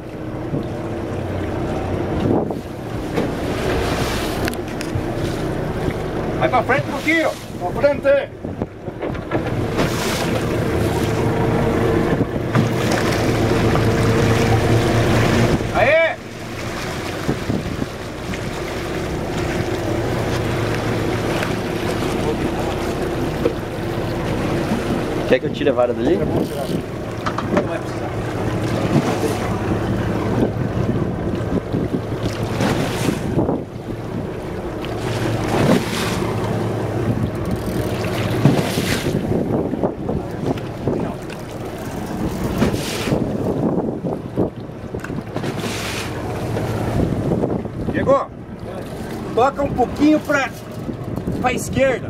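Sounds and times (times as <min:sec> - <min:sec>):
boat engine hum: 0:00.0 - 0:52.0
wake churning water: 0:00.0 - 0:52.0
wind buffeting microphone: 0:00.5 - 0:52.0.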